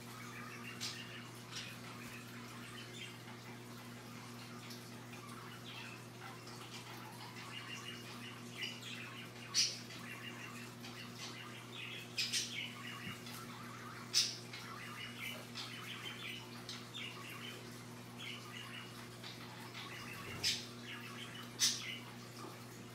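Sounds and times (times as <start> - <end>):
parrot chirping softly: 0.0 - 22.9.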